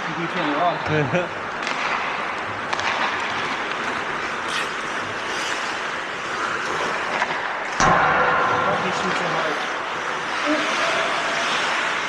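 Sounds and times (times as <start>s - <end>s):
skates scraping ice: 1.4s - 7.8s, 8.7s - 12.0s.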